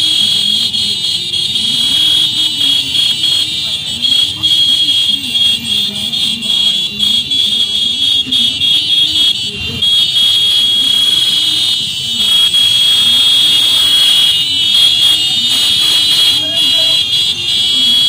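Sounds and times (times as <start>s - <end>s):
motorcycles running: 0.0s - 18.0s
shrill high-pitched tone: 0.0s - 18.0s.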